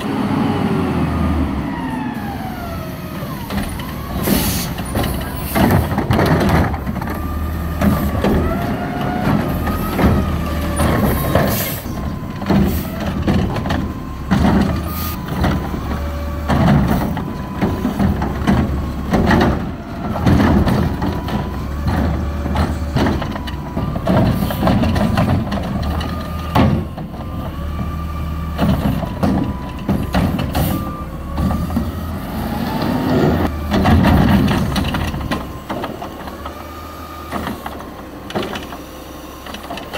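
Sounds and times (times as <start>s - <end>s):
truck diesel engine revving: 0.0s - 39.9s
clunks and bangs: 1.8s - 39.9s.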